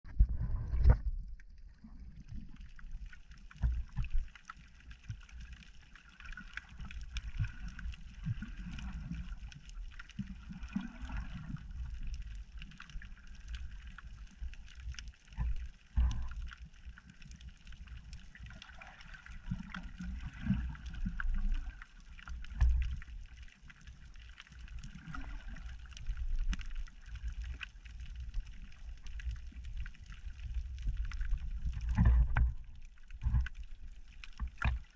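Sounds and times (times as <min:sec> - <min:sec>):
water rumbling around camera: 0:00.0 - 0:34.9.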